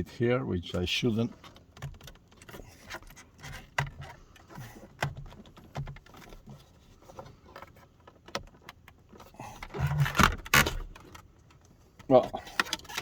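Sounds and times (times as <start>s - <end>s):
plastic clicks and knocks: 0.7s - 13.0s.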